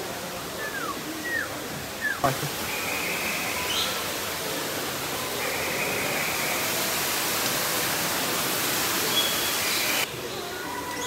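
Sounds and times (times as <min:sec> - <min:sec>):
steady rushing hiss: 0:00.0 - 0:10.7.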